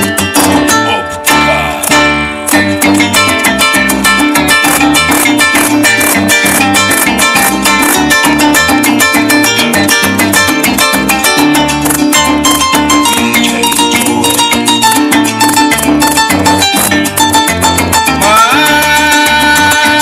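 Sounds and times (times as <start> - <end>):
bass-heavy beat: 0.0 - 20.0
plucked guitar: 0.0 - 20.0.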